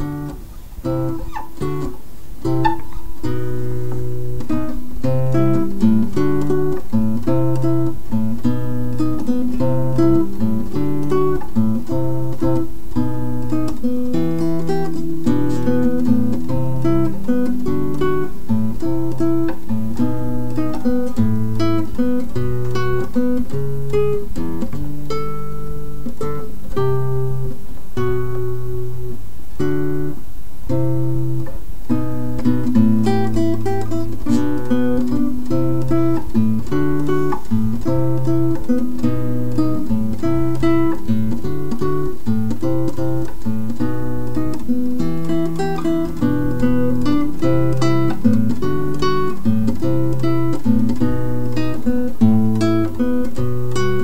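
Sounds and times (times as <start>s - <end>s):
acoustic guitar tune: 0.0s - 54.0s.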